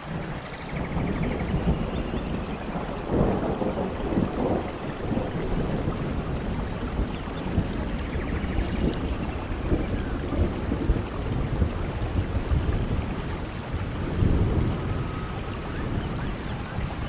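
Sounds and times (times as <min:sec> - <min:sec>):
heavy rainfall: 0:00.0 - 0:17.0
low rumble of thunder: 0:00.0 - 0:17.0.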